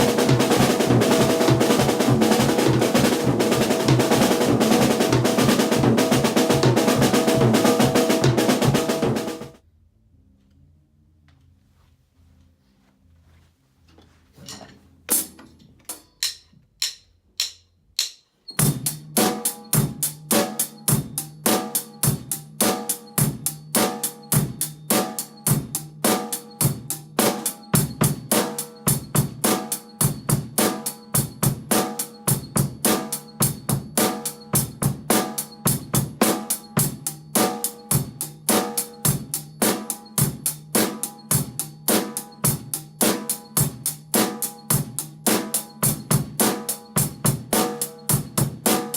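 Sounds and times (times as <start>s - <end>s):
drum kit playing: 0.0s - 9.6s, 15.1s - 48.9s.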